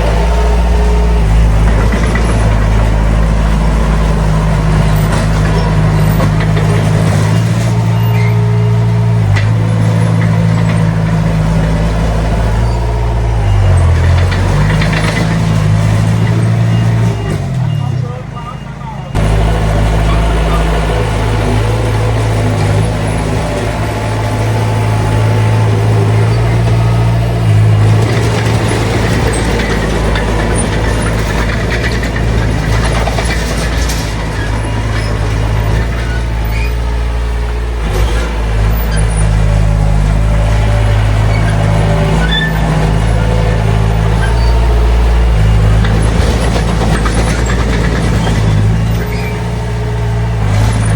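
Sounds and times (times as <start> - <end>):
heavy diesel engine droning: 0.0 - 50.9.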